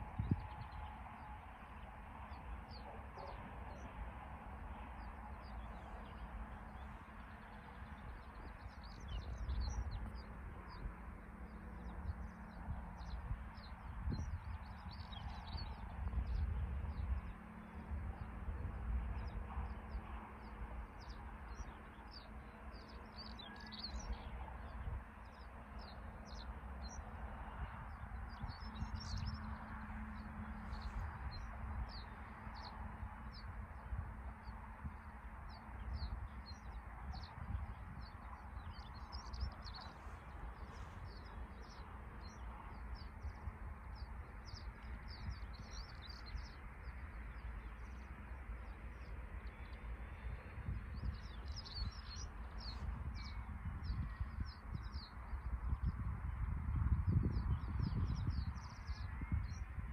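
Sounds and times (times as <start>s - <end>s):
wind rumbling on microphone: 0.0s - 59.9s
small birds chirping: 4.8s - 17.5s, 19.0s - 59.7s.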